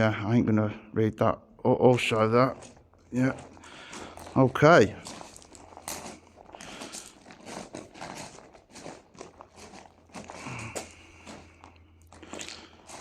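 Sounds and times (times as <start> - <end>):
footsteps crunching over rubble: 1.8 - 13.0.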